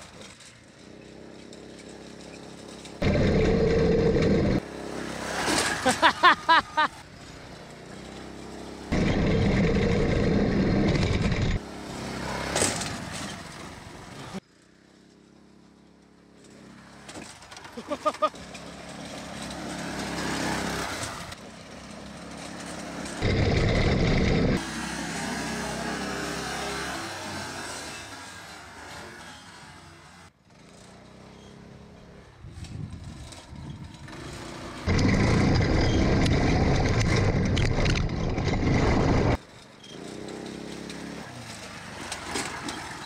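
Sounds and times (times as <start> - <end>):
go-kart engine running: 0.0 - 43.0.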